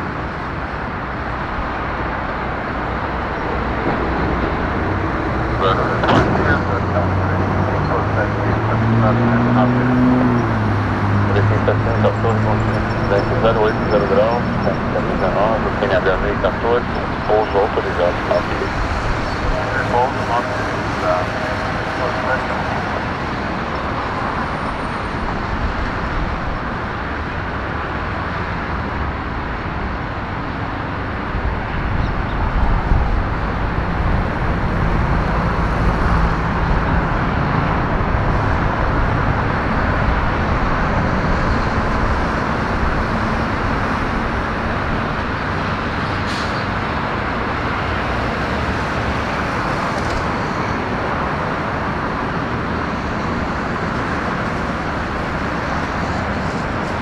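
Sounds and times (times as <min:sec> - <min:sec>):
distant jet engines roaring: 0:00.0 - 0:57.0.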